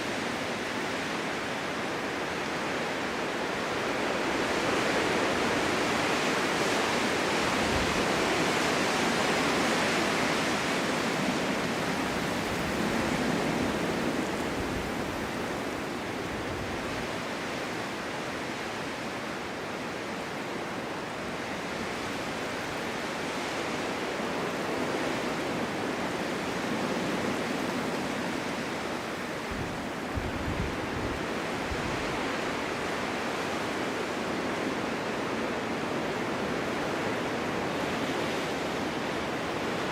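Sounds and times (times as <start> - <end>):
wind blowing through snowstorm: 0.0 - 39.9
low rumbling wind gusts: 0.1 - 39.9.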